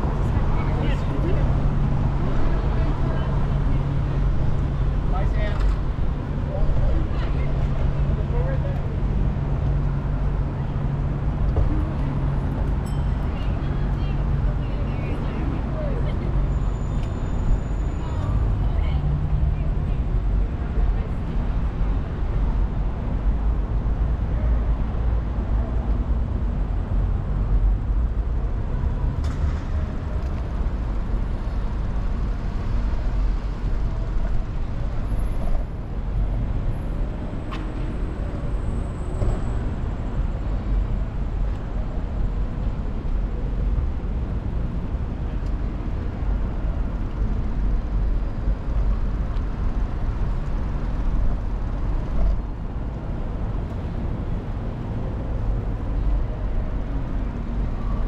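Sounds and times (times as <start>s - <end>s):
street traffic: 0.0s - 58.0s.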